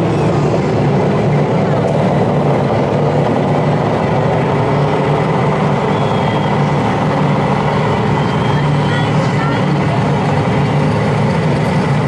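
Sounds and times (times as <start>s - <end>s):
diesel truck idling: 0.0s - 12.0s
din of busy hall: 0.0s - 12.0s.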